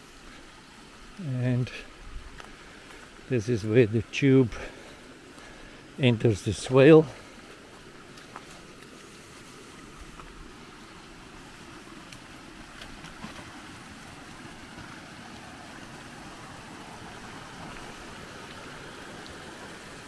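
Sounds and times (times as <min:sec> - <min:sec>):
water rushing over rocks: 0:00.2 - 0:20.0.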